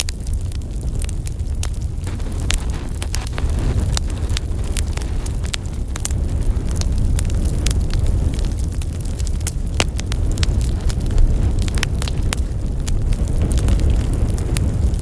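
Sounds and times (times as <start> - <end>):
low rumble of flames: 0.0 - 15.0
sharp pops from fire: 0.0 - 15.0
wood logs crackling in fireplace: 0.0 - 15.0.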